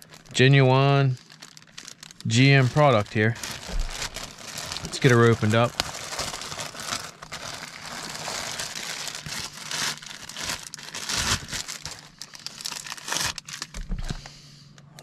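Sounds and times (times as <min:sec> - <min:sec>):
plastic bag crinkling: 0:00.0 - 0:14.3.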